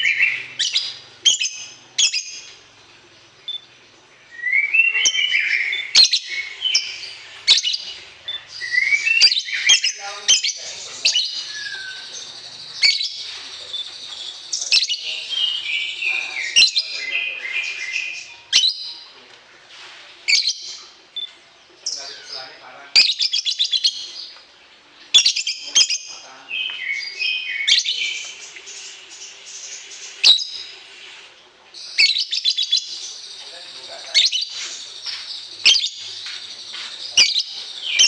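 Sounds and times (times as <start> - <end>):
songbird singing: 0.0 - 19.4, 20.3 - 38.0.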